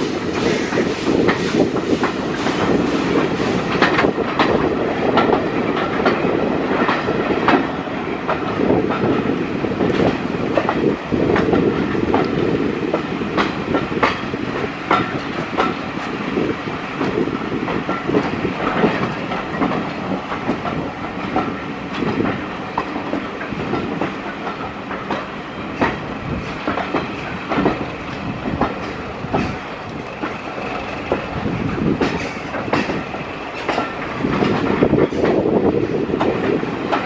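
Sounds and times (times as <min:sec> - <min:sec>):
train coach rumbling on rails: 0:00.0 - 0:37.0
wheels clacking over rail joints: 0:00.0 - 0:37.0.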